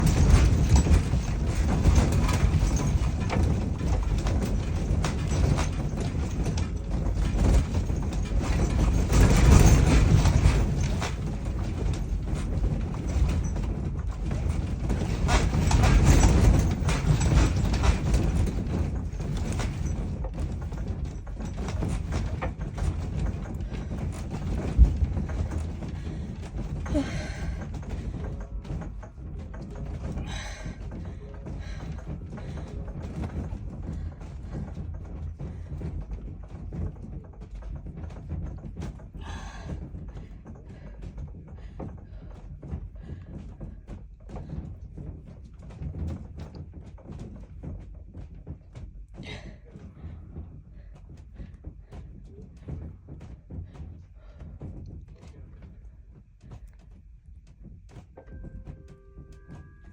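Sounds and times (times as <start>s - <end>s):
building rattling in earthquake: 0.0s - 59.9s
low earthquake rumble: 0.0s - 59.9s.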